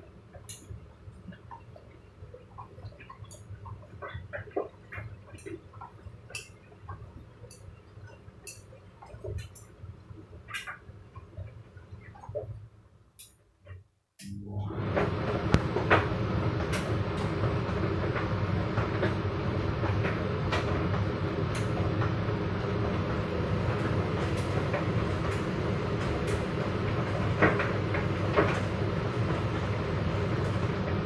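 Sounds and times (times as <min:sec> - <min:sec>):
washer-dryer motor hum and drum rumble: 0:00.0 - 0:12.8, 0:14.2 - 0:31.0.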